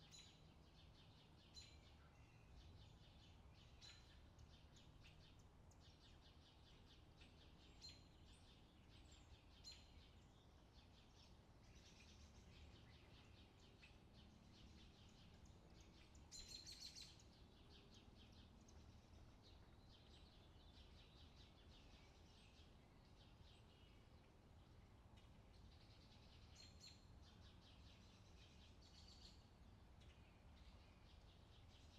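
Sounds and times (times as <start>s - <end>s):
low steady background rumble: 0.0s - 31.9s
small birds chirping: 0.0s - 31.9s.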